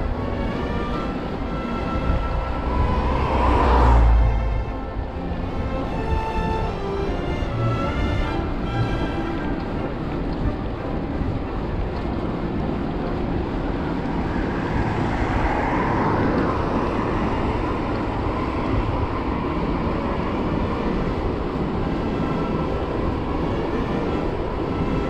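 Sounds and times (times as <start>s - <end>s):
car passing: 0.0s - 25.0s
wind rushing over camera: 0.0s - 25.0s.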